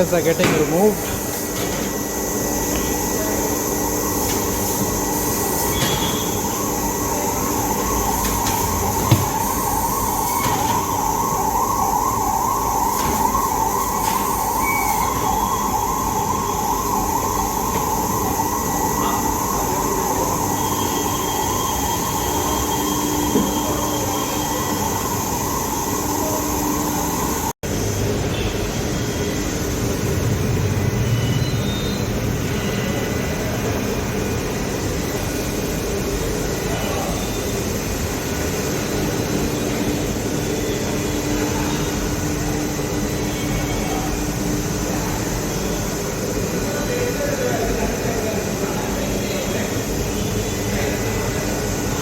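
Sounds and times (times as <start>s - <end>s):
machine running with squeal: 0.0s - 52.0s.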